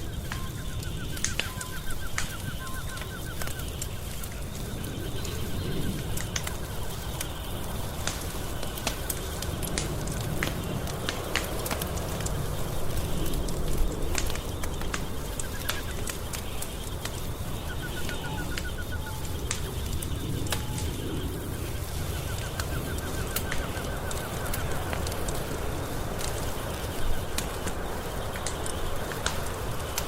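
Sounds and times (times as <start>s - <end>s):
faint chirping trills: 0.0s - 30.0s
wood fire crackling: 0.0s - 30.0s.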